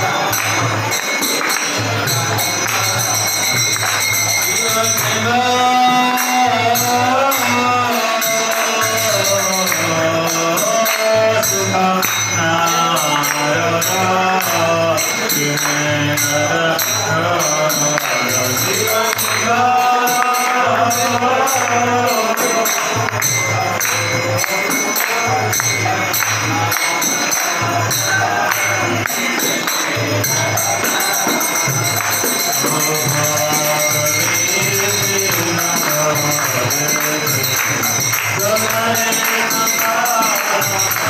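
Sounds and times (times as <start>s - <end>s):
crowd hand-clapping: 0.0s - 41.0s
jingling percussion: 0.0s - 41.0s
sung devotional melody: 0.0s - 41.0s.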